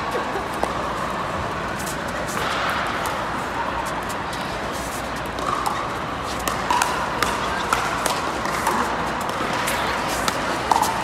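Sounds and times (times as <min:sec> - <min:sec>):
murmur of indoor crowd: 0:00.0 - 0:11.0.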